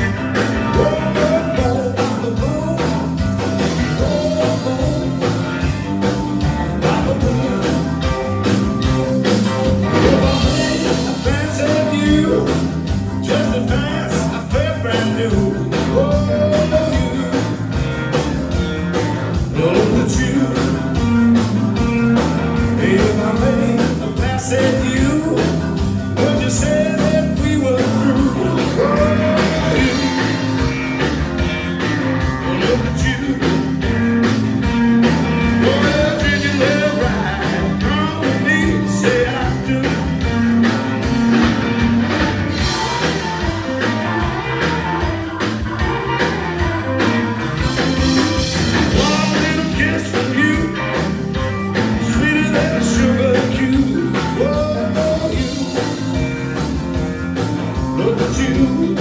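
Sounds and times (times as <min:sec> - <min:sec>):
bass: 0:00.0 - 0:59.0
drums: 0:00.0 - 0:59.0
electric guitar lines: 0:00.0 - 0:59.0
keyboard: 0:00.0 - 0:59.0.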